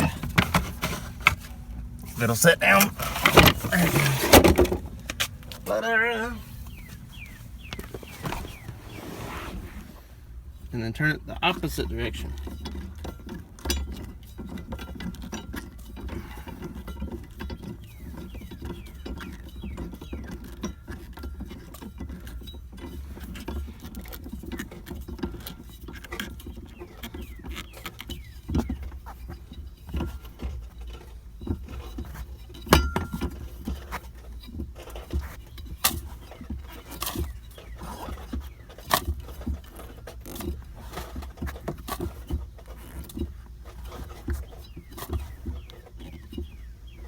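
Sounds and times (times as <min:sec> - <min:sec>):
winch clicking and rattling: 0:00.0 - 0:08.9, 0:10.3 - 0:47.0.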